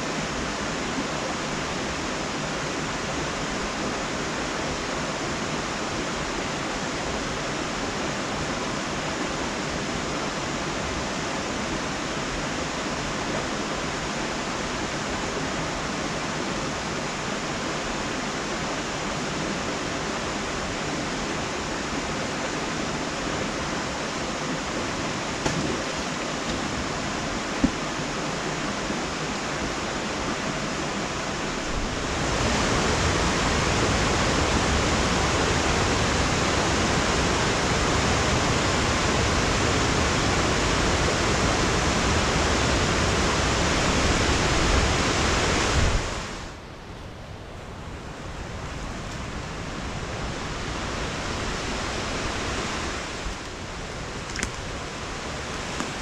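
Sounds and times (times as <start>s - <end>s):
steady rushing hiss: 0.0s - 56.0s.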